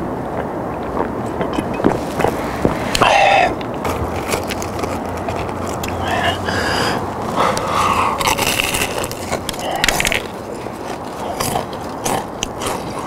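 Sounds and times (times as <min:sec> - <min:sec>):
crunching fried chicken: 0:00.4 - 0:13.0.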